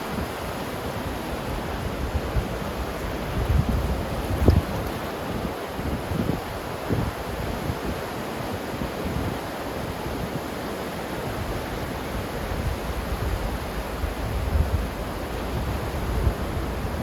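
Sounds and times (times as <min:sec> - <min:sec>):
ocean surf washing: 0:00.0 - 0:17.0
wind rumble on microphone: 0:00.0 - 0:17.0.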